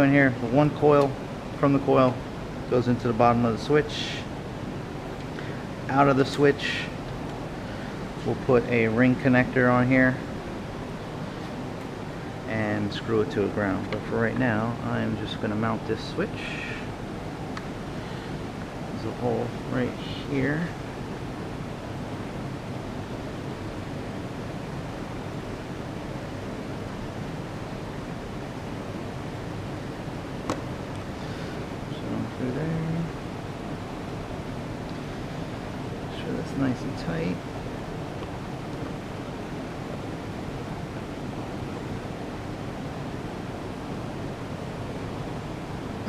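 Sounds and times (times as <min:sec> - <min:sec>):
rushing hiss of background noise: 0:00.0 - 0:46.0.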